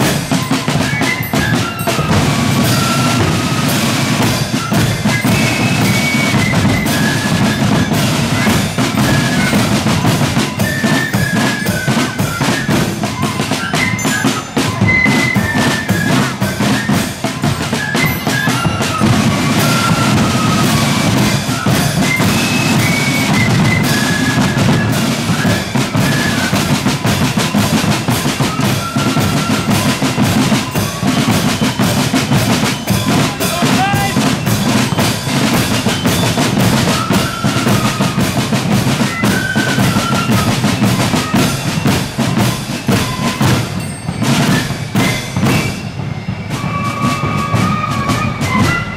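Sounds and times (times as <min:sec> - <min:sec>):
flute melody: 0:00.0 - 0:48.9
snare drum rolls: 0:00.0 - 0:48.9.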